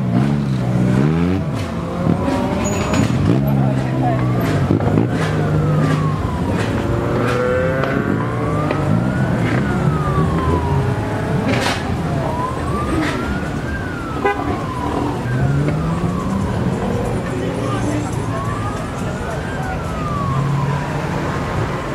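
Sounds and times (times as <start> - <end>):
car engines revving: 0.0 - 21.9
siren wailing: 0.8 - 21.9.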